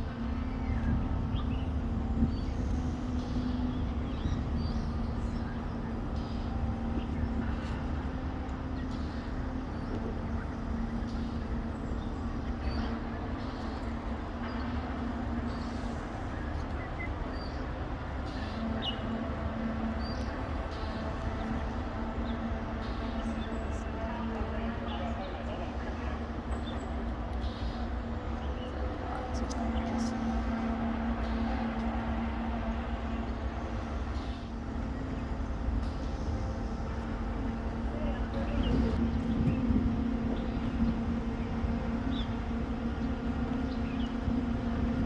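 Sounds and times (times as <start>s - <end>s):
low hum of traffic or machinery: 0.0s - 45.0s.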